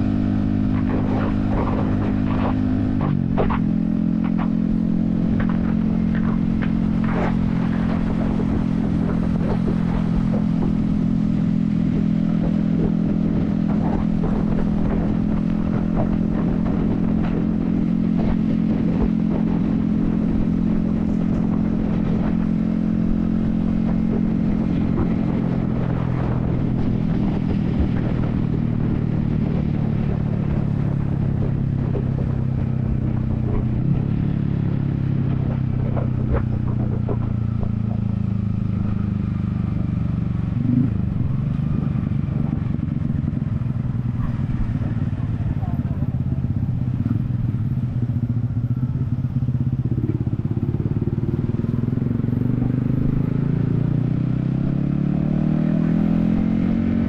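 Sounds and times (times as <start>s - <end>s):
motorcycle engine cruising: 0.0s - 57.0s
wind rumble: 0.0s - 57.0s.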